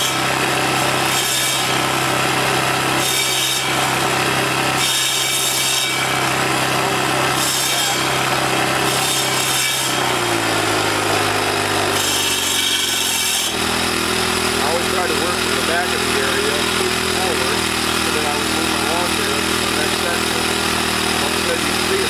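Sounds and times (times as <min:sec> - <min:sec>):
engine running hard: 0:00.0 - 0:05.4, 0:06.0 - 0:12.0, 0:13.5 - 0:22.0
blade grinding wood: 0:00.0 - 0:22.0.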